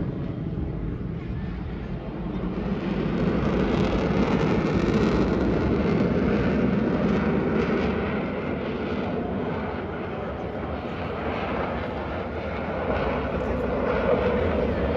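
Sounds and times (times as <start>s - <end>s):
aircraft engine passing by: 0.0s - 14.9s.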